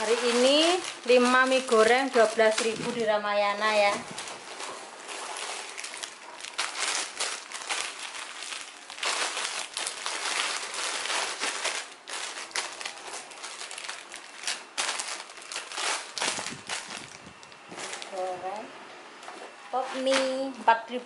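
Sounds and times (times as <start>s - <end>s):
plastic packets crinkling: 0.0s - 18.7s, 19.8s - 21.0s.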